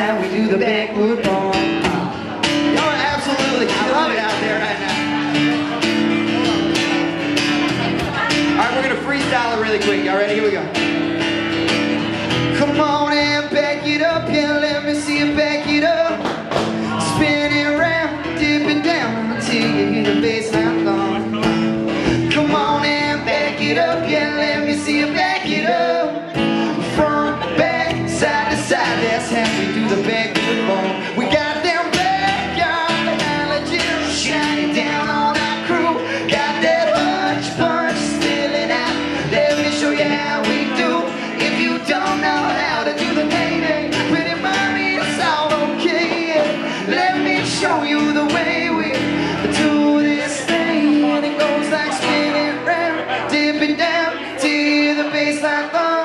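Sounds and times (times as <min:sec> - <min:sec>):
men singing: 0:00.0 - 0:06.9, 0:12.0 - 0:56.0
acoustic guitar strumming: 0:00.0 - 0:56.0.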